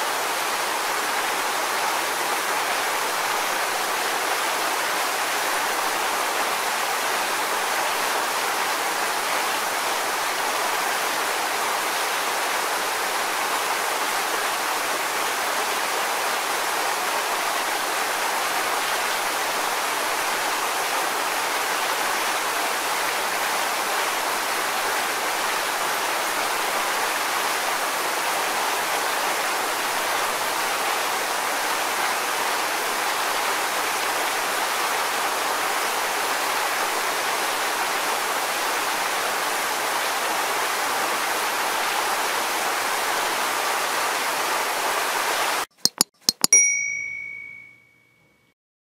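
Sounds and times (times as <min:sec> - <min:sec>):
waterfall rushing: 0:00.0 - 0:45.7.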